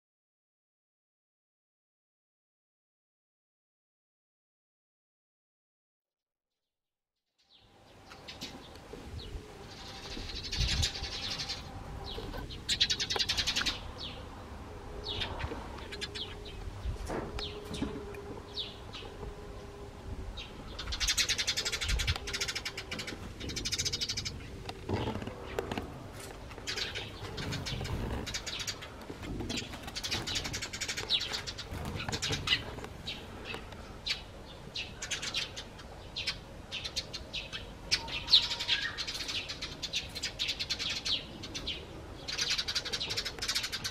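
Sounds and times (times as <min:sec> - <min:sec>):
sparrows chirping: 0:07.4 - 0:43.9.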